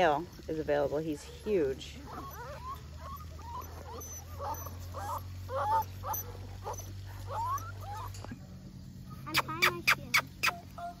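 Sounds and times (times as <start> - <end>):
puppies whining and whimpering: 0.0 - 8.4, 9.3 - 11.0.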